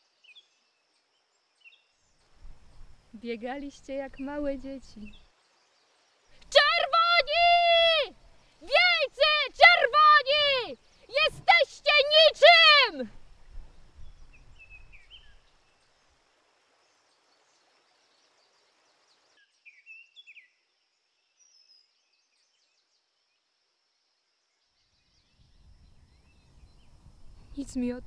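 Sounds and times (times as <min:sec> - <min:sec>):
faint bird chirps: 0:00.0 - 0:09.7, 0:13.5 - 0:16.0, 0:16.9 - 0:28.0.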